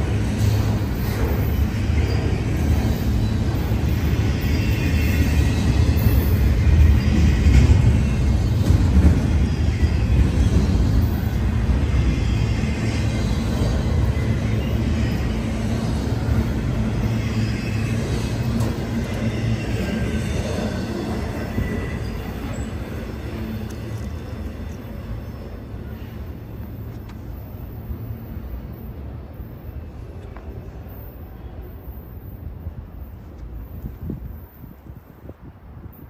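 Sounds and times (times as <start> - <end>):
freight train wheels rumbling: 0.0 - 36.0.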